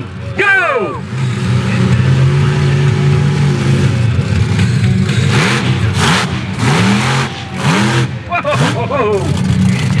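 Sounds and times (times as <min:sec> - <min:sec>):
monster truck engine revving: 0:00.8 - 0:10.0.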